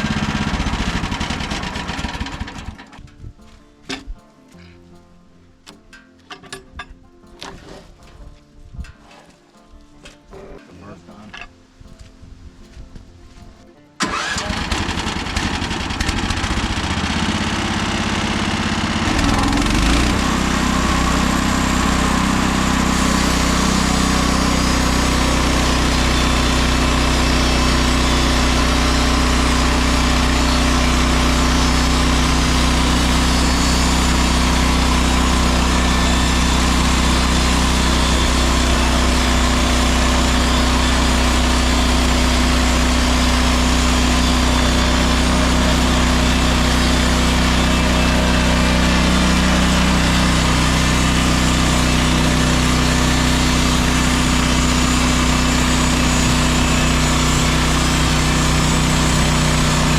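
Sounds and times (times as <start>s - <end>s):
gasoline engine running: 0.0s - 3.0s, 14.0s - 59.9s.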